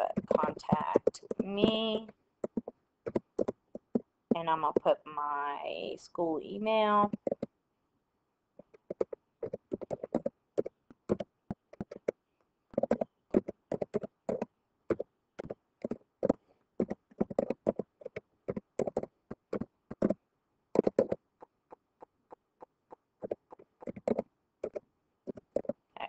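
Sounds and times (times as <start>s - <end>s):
computer keyboard typing: 0.1s - 4.4s, 7.1s - 7.5s, 8.6s - 20.2s, 20.8s - 25.8s.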